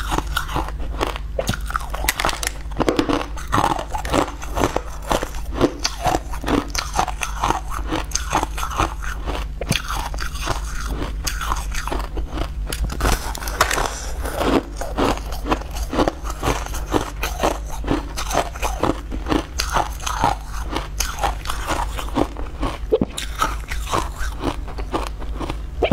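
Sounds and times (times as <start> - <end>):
chewing crushed ice: 0.0 - 25.9
steady low hum: 0.0 - 25.9.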